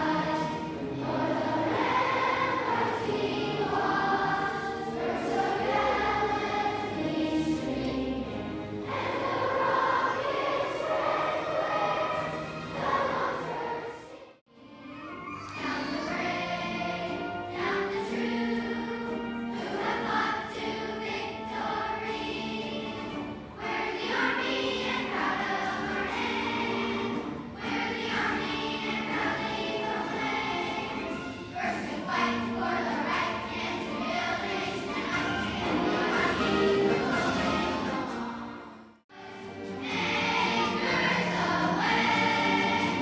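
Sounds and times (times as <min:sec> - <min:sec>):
children's choir singing: 0:00.0 - 0:43.0.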